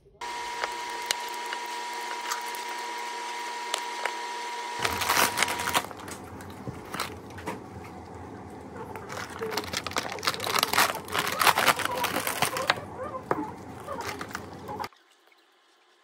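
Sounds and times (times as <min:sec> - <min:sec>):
machine hum with high whine: 0:00.0 - 0:14.9.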